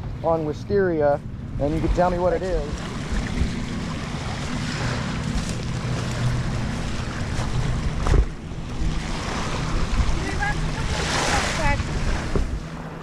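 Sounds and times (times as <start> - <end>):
motorboat engine hum: 0.0 - 13.0
wind on microphone: 0.0 - 13.0
small waves washing on beach: 1.7 - 12.9.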